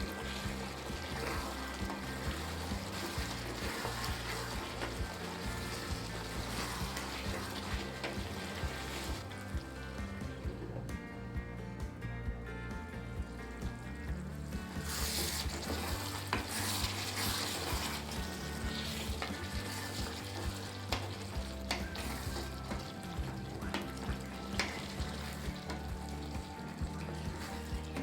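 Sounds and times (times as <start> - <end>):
spoon scraping against pan: 0.0 - 9.4, 14.6 - 28.0
gravy sizzling in a pan: 0.0 - 11.9, 12.8 - 28.0.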